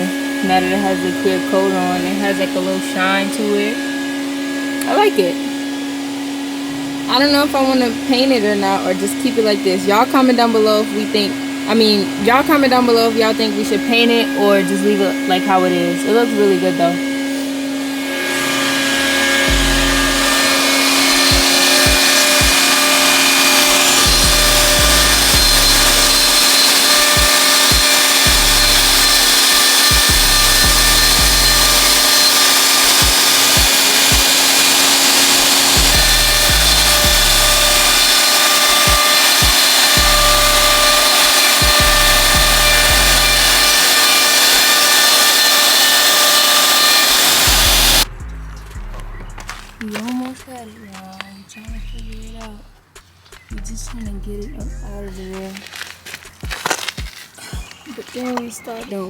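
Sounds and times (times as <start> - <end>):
wood router whining: 0.0 - 48.2, 54.7 - 59.0.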